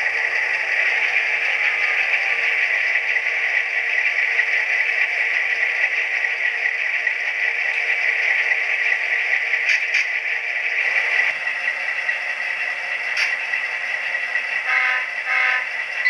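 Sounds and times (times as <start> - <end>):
model locomotive engine sound: 0.0 - 16.0.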